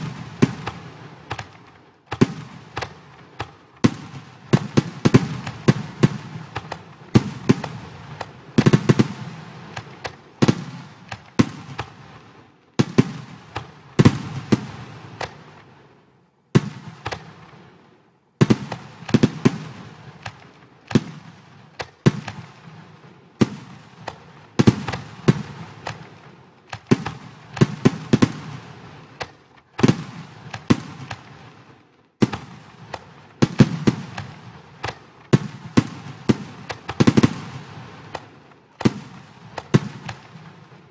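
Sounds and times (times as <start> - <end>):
firework bursts with crackling: 0.0 - 16.0, 16.6 - 40.9.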